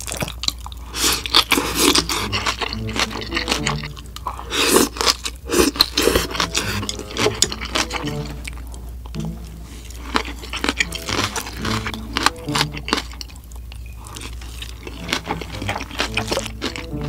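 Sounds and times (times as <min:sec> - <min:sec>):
chewing with wet mouth clicks: 0:00.0 - 0:17.0.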